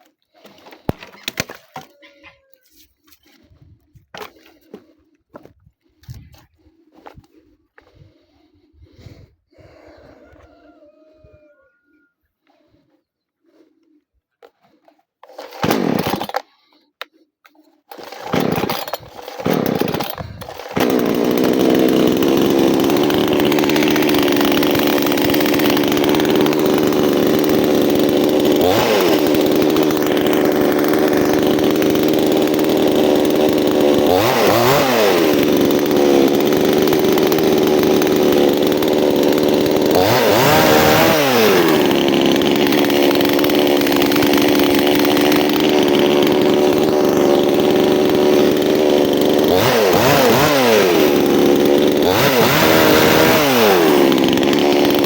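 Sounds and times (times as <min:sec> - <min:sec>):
chainsaw engine starting and running: 0:00.0 - 0:02.0, 0:03.0 - 0:11.1, 0:12.4 - 0:55.0.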